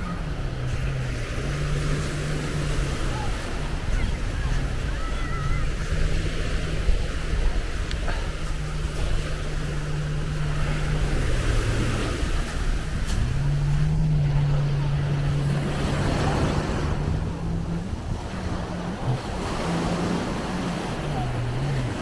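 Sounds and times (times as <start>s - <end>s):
low hum: 0.0s - 22.0s
small waves breaking on shore: 0.0s - 22.0s
wind on microphone: 0.0s - 22.0s.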